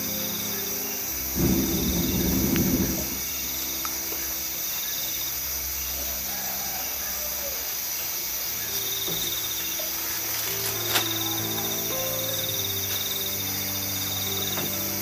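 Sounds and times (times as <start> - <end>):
night insects chirping: 0.0 - 15.0.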